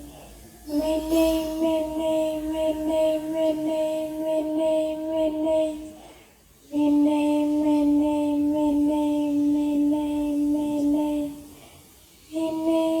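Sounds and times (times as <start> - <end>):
person singing a long note: 0.0 - 6.0, 6.6 - 11.5.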